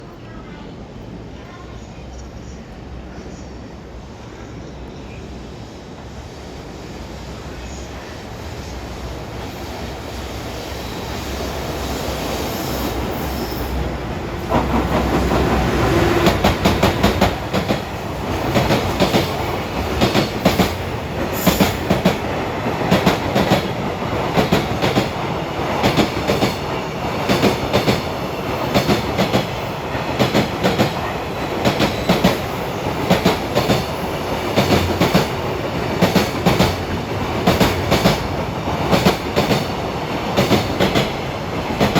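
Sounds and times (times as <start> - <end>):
freight train passing: 0.0 - 41.9.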